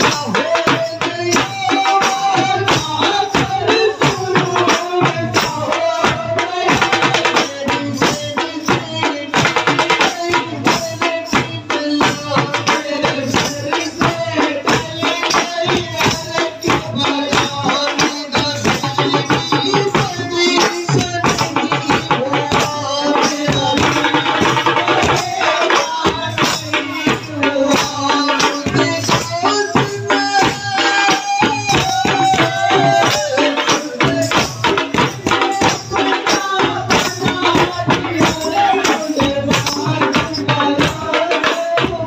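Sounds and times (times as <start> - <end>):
barrel drums beaten fast: 0.0 - 42.0
jingling percussion: 0.0 - 42.0.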